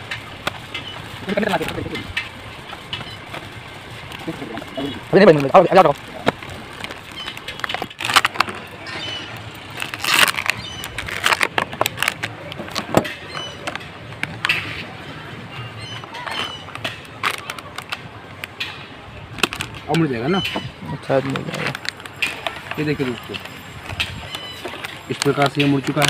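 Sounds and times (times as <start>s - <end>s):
plastic cups crackling and clacking: 0.0s - 15.0s, 15.9s - 26.0s.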